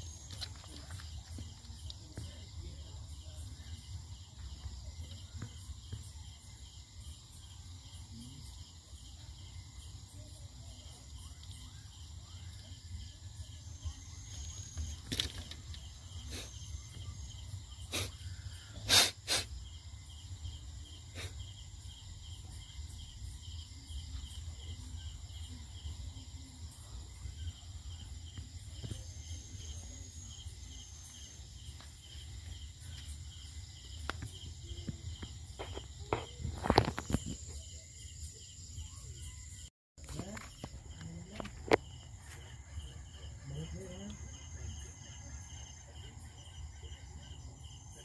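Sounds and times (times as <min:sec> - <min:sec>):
night insects chirping: 0:00.0 - 0:48.0.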